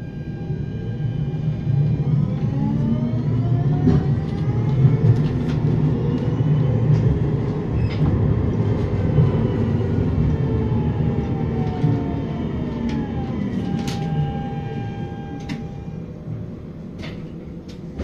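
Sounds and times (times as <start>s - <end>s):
tram drive whine: 0.0s - 18.0s
tram running rumble: 0.0s - 18.0s.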